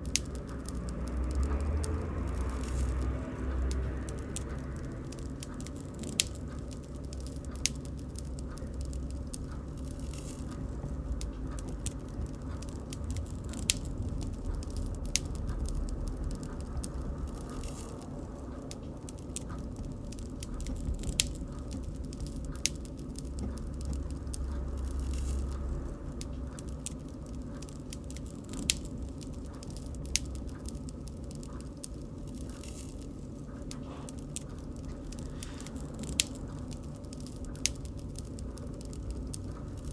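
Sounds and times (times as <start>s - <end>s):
wood crackling and popping: 0.0s - 39.9s
wood fire burning: 0.0s - 39.9s.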